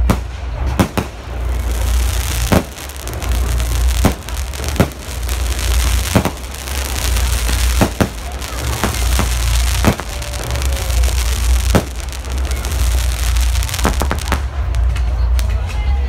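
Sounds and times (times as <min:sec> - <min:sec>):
fireworks crackling hiss: 0:00.0 - 0:15.6
fireworks bursting: 0:00.0 - 0:15.7
low rumble: 0:00.3 - 0:15.4.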